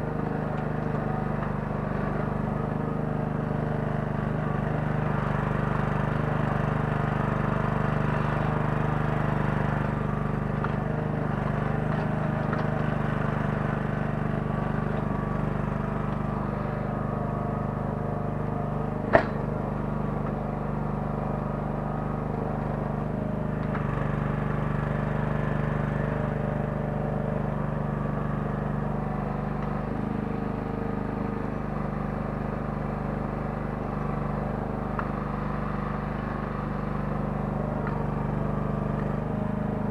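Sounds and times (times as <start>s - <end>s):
small excavator engine running: 0.0s - 39.9s.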